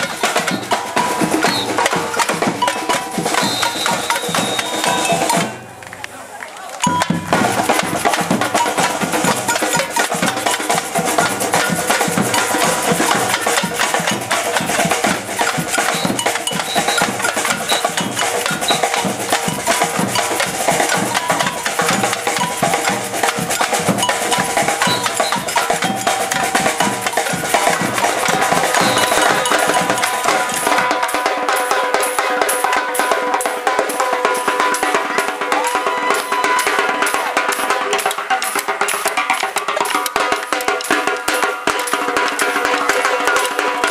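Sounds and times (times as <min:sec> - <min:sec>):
higher drums playing groove: 0:00.0 - 0:05.9, 0:06.8 - 0:43.9.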